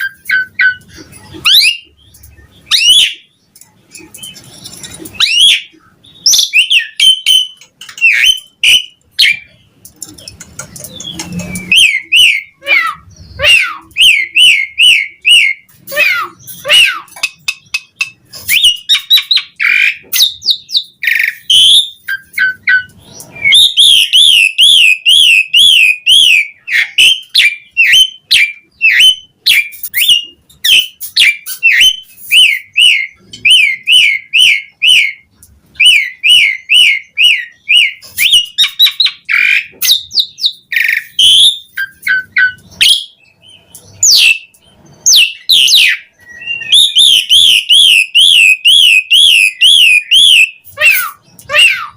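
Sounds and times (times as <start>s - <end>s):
starling singing: 0.0s - 51.9s.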